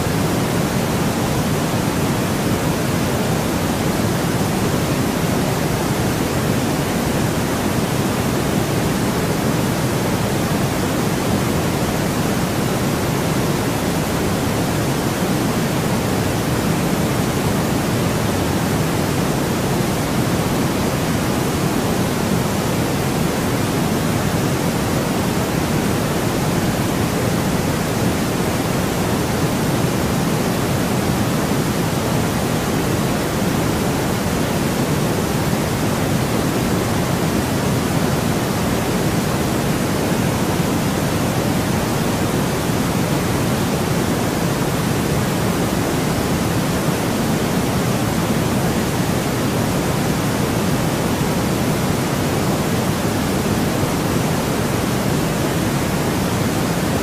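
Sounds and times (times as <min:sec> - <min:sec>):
low deep white noise hiss: 0:00.0 - 0:57.0.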